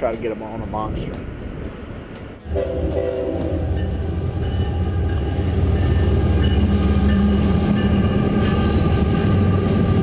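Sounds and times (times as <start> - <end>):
freight train rumbling across bridge: 0.0 - 10.0.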